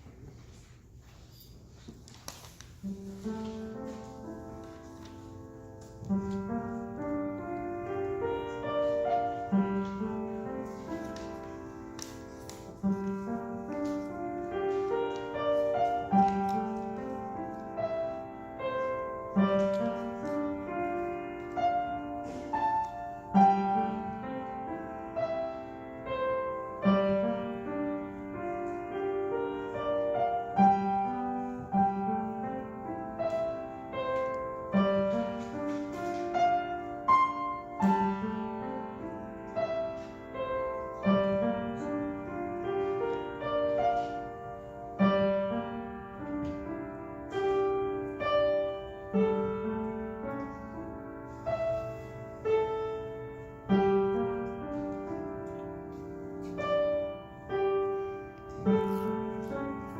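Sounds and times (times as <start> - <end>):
solo piano broken chords: 2.7 - 59.9.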